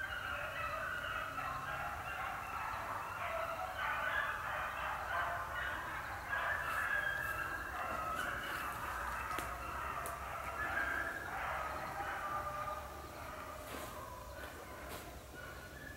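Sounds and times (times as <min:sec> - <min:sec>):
hounds baying: 0:00.0 - 0:15.9.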